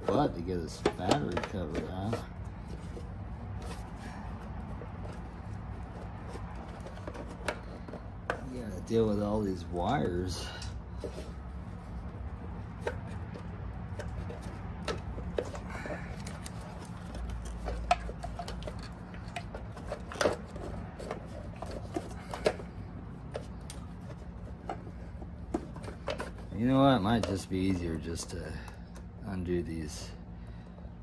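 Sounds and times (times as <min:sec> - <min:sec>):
clicks and knocks of handled parts: 0:00.0 - 0:31.0.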